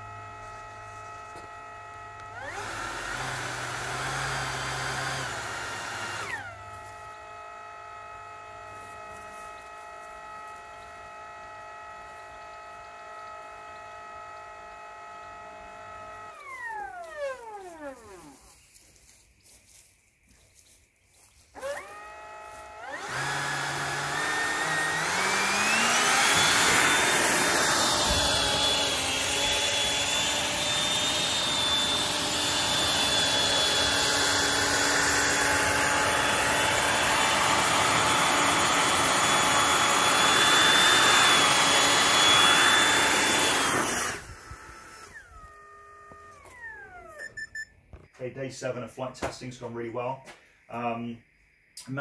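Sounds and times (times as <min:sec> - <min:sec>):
drone motors whining: 0:00.0 - 0:48.1.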